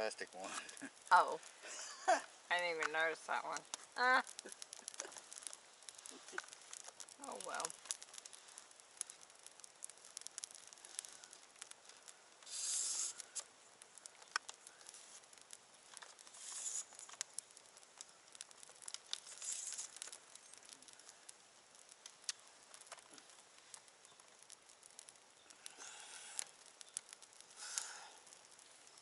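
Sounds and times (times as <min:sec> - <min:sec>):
campfire crackling and popping: 0:00.0 - 0:29.0
fire hissing rushes: 0:00.0 - 0:29.0.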